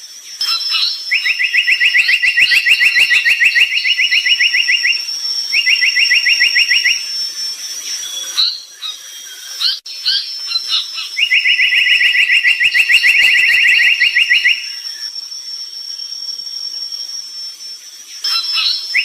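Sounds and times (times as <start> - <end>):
bird chirping and trilling: 0.3 - 15.2, 18.0 - 19.0.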